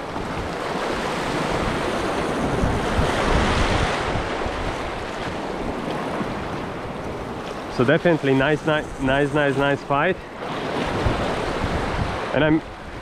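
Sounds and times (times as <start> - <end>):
sea waves breaking on rocks: 0.0 - 13.0
wind buffeting microphone: 0.0 - 13.0.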